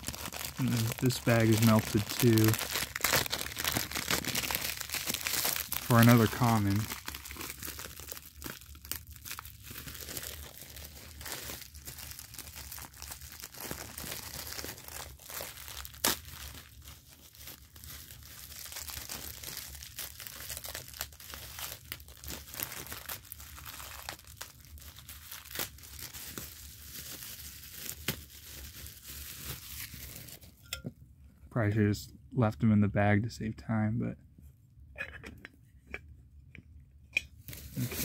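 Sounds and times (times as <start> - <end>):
plastic bag crinkling and tearing: 0.0 - 30.6, 37.4 - 38.0.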